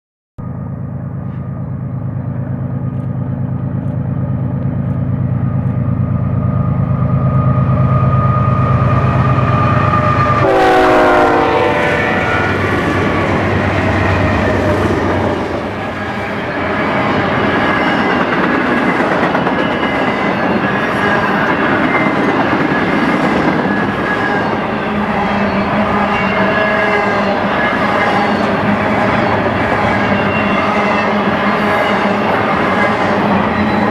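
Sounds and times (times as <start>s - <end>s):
diesel locomotive engines droning: 0.4s - 33.9s
train cars rumbling on rails: 0.4s - 33.9s.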